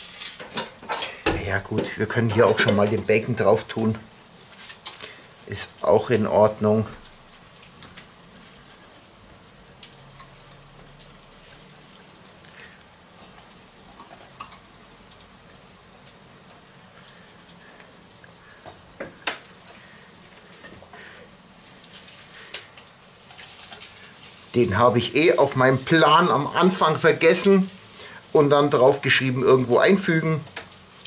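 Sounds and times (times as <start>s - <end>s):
food frying in a pan: 0.0s - 31.0s.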